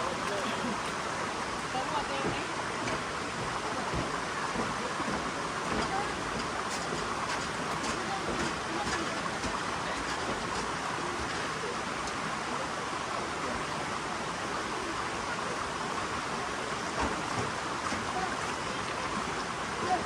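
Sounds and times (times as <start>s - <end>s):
waterfall splashing: 0.0s - 20.0s.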